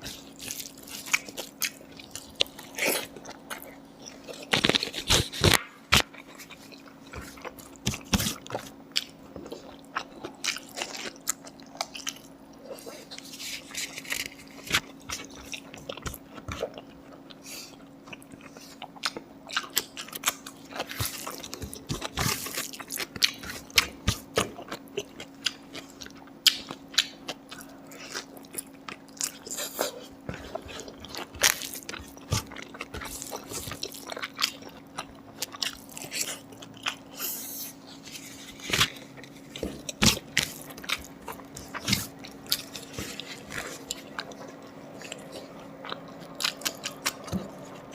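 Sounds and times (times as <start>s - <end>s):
crunchy chewing and biting: 0.0s - 47.9s
faint steady hum: 0.0s - 47.9s.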